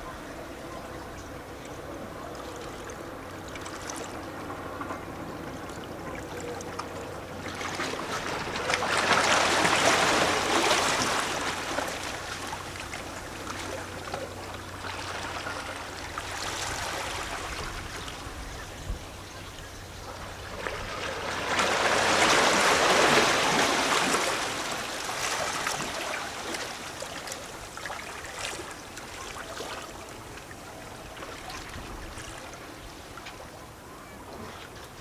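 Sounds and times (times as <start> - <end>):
gurgling water: 0.0 - 35.0
sea waves lapping against rocks: 2.5 - 19.3, 20.0 - 33.5.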